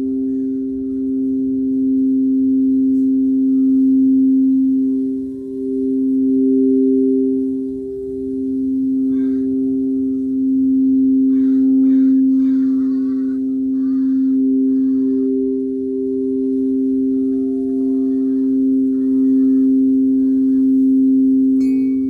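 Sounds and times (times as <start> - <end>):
crystal singing bowl humming: 0.0 - 22.0.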